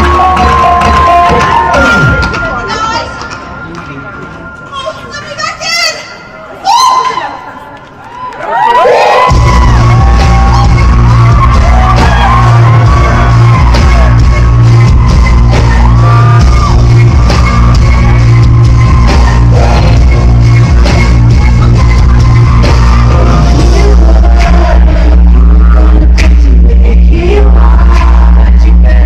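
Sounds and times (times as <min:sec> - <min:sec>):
loud pop concert music: 0:00.0 - 0:07.6, 0:08.5 - 0:29.0.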